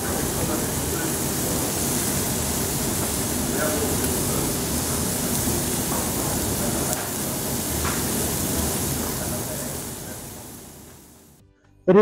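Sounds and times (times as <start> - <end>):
meat sizzling on griddle pan: 0.0 - 11.4.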